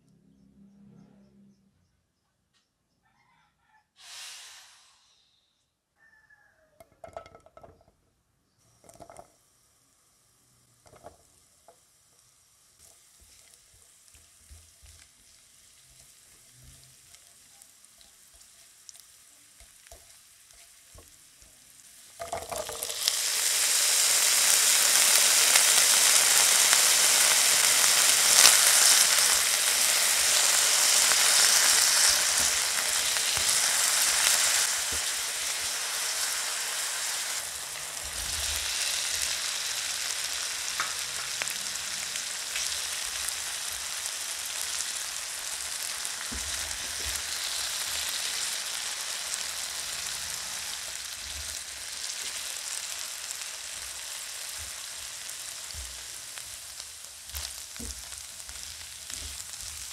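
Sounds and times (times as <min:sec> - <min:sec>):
vegetables sizzling in oil: 0:08.7 - 0:59.9.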